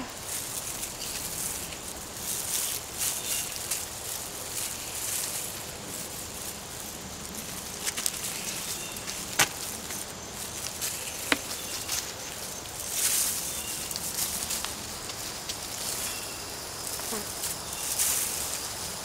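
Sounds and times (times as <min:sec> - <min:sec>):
hands rustling in potting soil: 0:00.0 - 0:19.0
outdoor hiss: 0:00.0 - 0:19.0.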